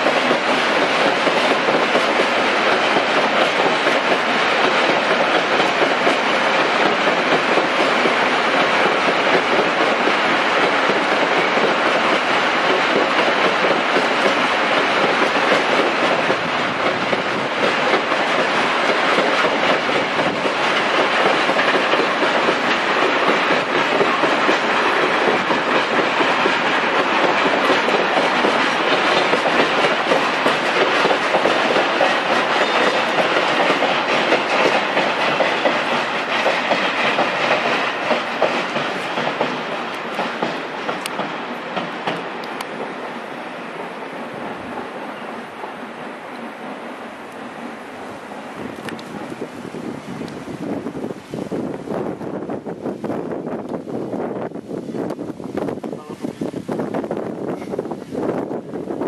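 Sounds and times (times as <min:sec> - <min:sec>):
diesel locomotive passing: 0:00.0 - 0:59.0
train wheels clickety-clack: 0:00.0 - 0:59.0.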